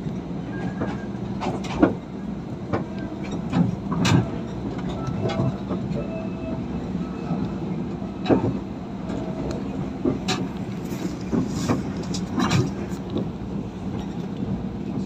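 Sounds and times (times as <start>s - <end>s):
train clanks and knocks: 0.0s - 15.0s
train hum: 0.0s - 15.0s.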